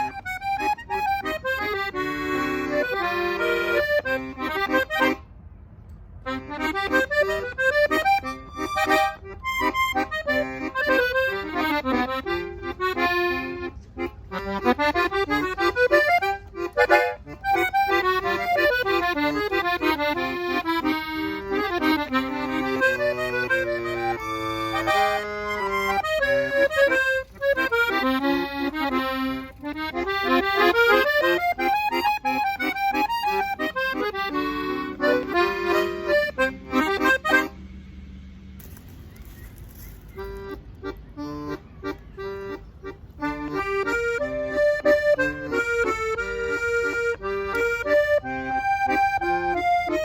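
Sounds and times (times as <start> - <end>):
accordion playing a quick melody: 0.0 - 5.3, 6.2 - 38.0, 38.6 - 50.0
low steady background noise: 0.0 - 49.9.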